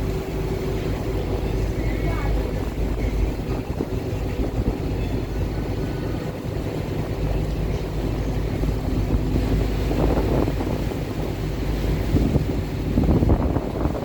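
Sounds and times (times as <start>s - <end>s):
motorboat engine drone: 0.0s - 14.0s
water splashing: 0.0s - 14.0s
wind buffeting microphone: 0.0s - 14.0s.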